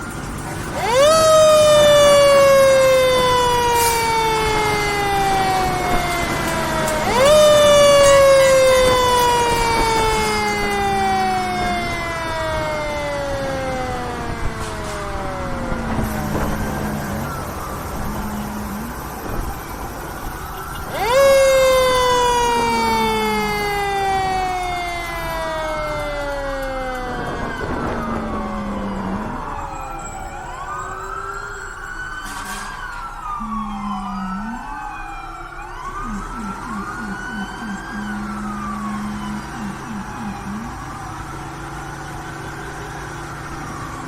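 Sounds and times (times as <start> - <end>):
fire truck sirens wailing: 0.0 - 44.0.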